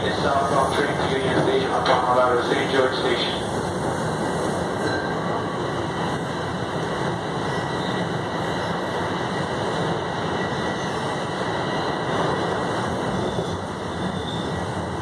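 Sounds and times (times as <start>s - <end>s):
subway train running in tunnel: 0.0s - 15.0s.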